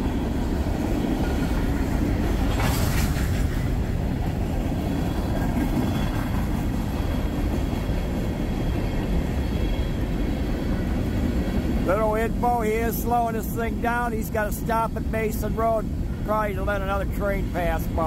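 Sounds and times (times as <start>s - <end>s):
train clatter: 0.0s - 18.0s
train wheels rumbling on rail: 0.0s - 18.0s.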